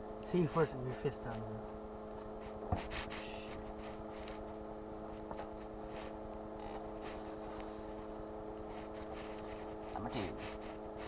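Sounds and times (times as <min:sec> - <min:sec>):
low electrical hum: 0:00.0 - 0:11.0
faint ticks and rustles: 0:00.1 - 0:11.0.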